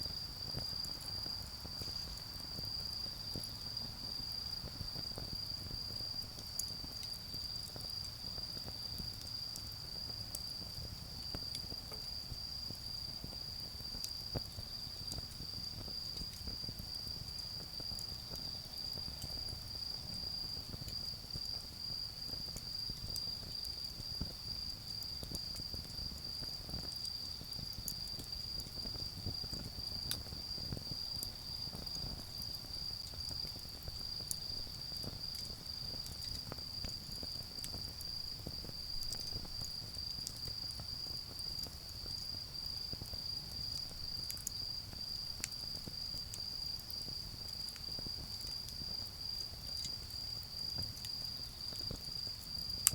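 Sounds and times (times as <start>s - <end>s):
charcoal fire crackling: 0.0s - 52.9s.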